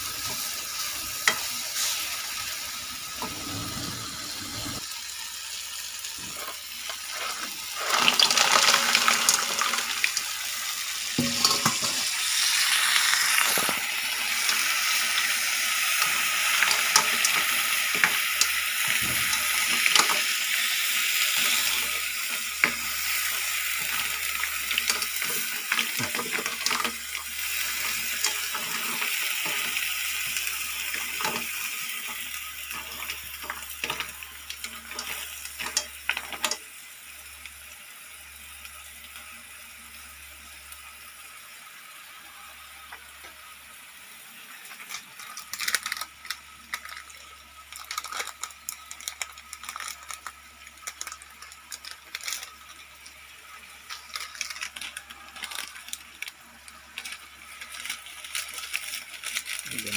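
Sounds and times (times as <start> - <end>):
mussels sizzling in pot: 0.0 - 59.9.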